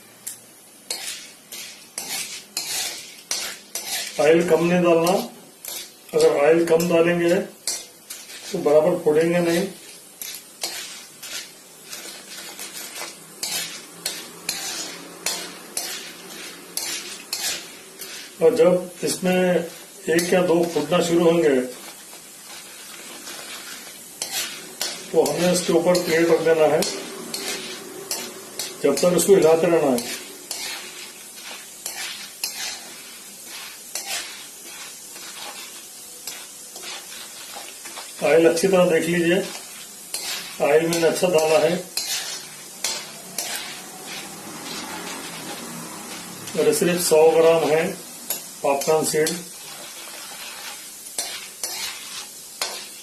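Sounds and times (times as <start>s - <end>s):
oil sizzling in a pan: 0.0s - 53.0s
stirring strokes scraping a pan: 0.0s - 53.0s.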